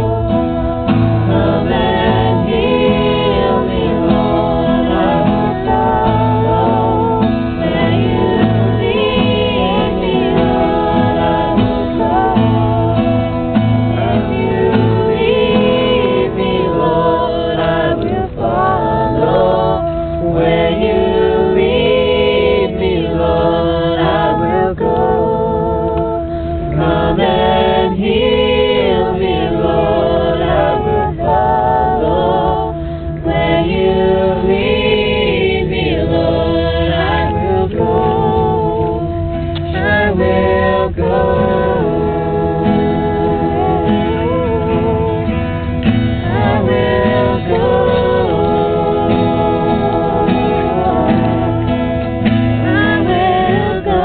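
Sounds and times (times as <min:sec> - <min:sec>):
acoustic guitar: 0:00.0 - 0:54.0
group singing worship song: 0:00.0 - 0:54.0.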